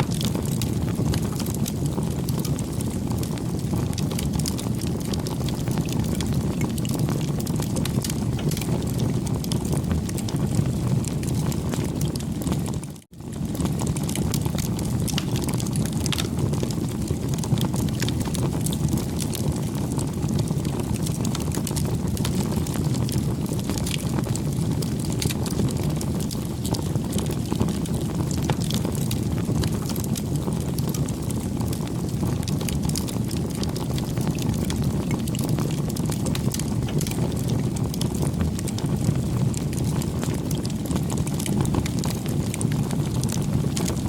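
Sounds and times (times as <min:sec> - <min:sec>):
campfire crackles and pops: 0:00.0 - 0:44.0
low rumble of flames: 0:00.0 - 0:44.0.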